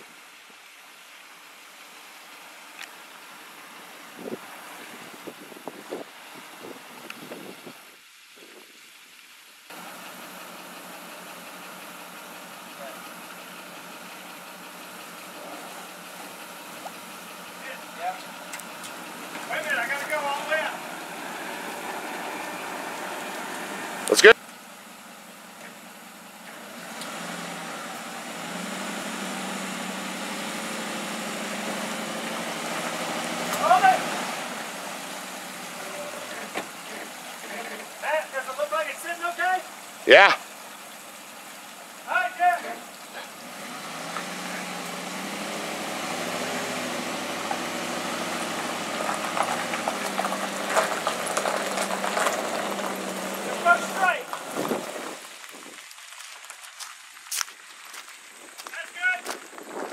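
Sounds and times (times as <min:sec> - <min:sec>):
wheels crunching on gravel: 0:00.0 - 0:59.9
truck engine pulling under load: 0:09.7 - 0:59.9.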